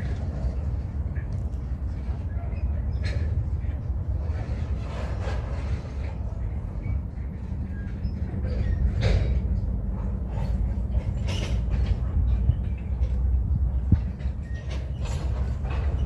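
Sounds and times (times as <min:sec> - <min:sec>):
train clanks: 0:00.0 - 0:16.0
train rumbling by: 0:00.0 - 0:16.0.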